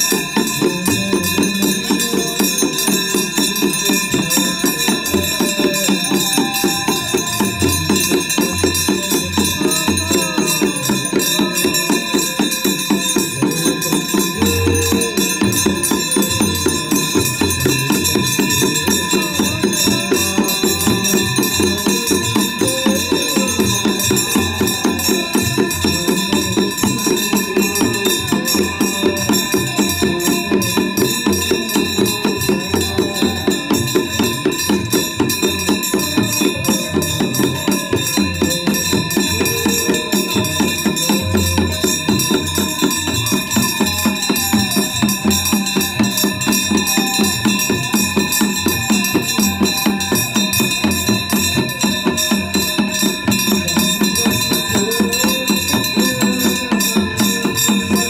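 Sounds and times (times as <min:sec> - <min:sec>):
devotional music: 0:00.0 - 0:58.0
fast drum beat: 0:00.0 - 0:58.0
jingling percussion: 0:00.0 - 0:58.0
steady ringing tones: 0:00.0 - 0:58.0.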